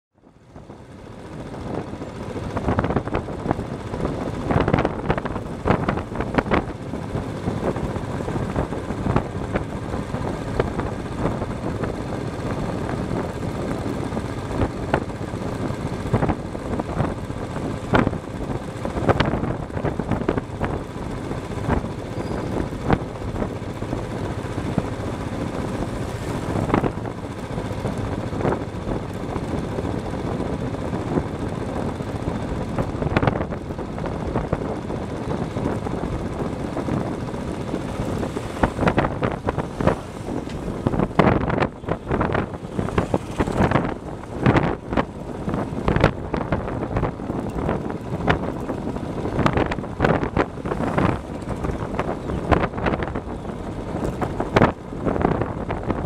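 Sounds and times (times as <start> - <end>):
road and wind noise: 0.1 - 56.0.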